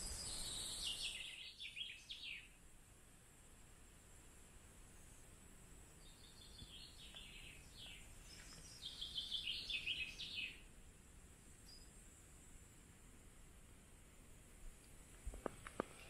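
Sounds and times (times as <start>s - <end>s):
songbird chirping: 0.0s - 2.7s, 4.7s - 13.0s, 14.2s - 16.0s.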